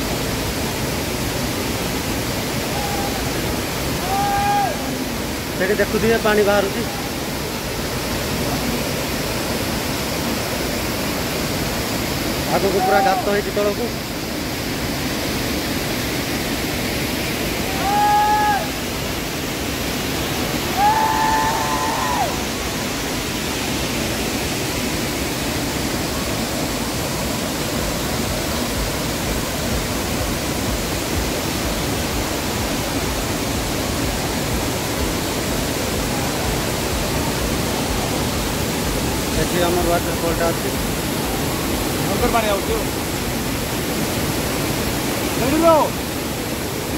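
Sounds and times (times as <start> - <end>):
waterfall roaring: 0.0 - 46.9.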